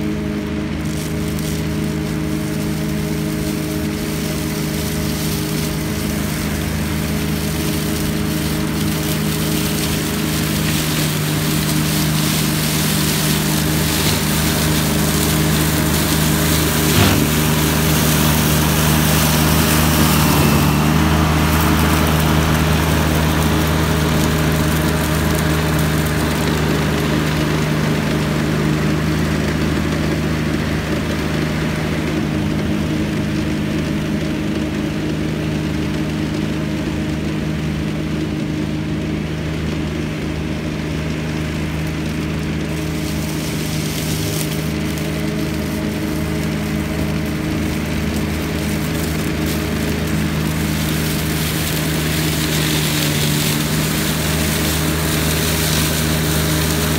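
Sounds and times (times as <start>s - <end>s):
flail mower running: 0.0s - 56.9s.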